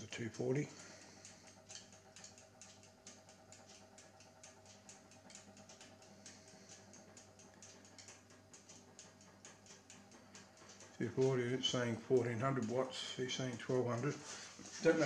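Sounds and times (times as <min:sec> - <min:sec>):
faint mains hum: 0:00.0 - 0:15.0
light irregular ticking: 0:00.0 - 0:15.0.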